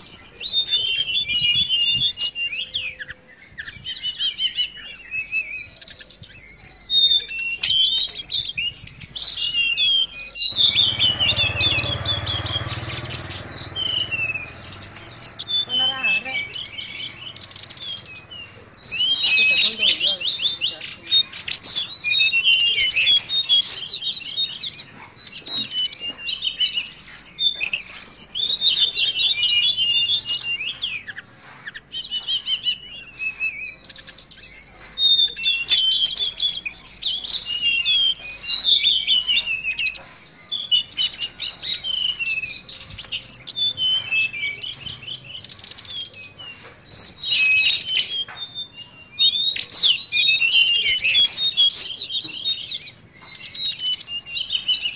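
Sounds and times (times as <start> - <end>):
bird twittering and trilling: 0.0 - 54.9.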